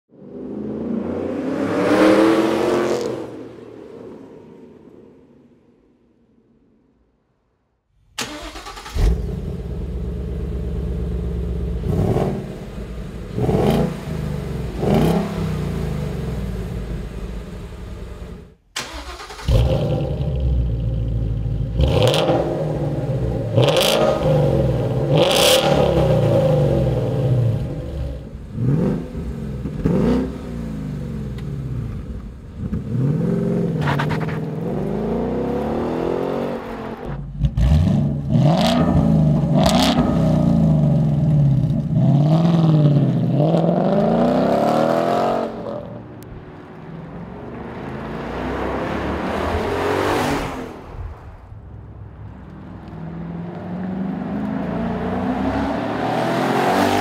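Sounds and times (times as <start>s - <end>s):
car engine idling and revving: 8.0s - 57.0s
car driving off accelerating: 8.2s - 51.4s, 52.2s - 57.0s.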